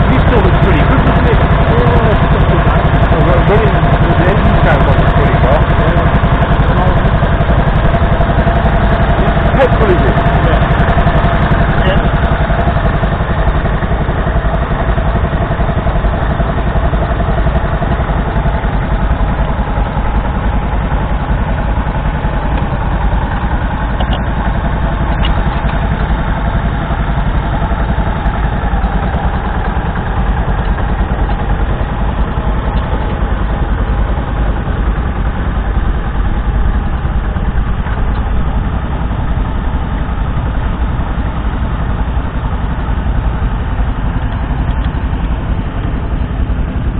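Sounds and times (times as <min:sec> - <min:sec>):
tractor engine running under load: 0:00.0 - 0:46.9.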